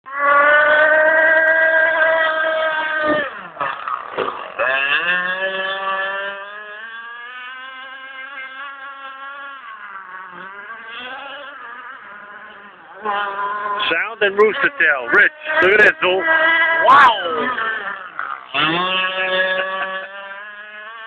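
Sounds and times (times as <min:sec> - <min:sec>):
model boat motor whining: 0:00.1 - 0:21.0.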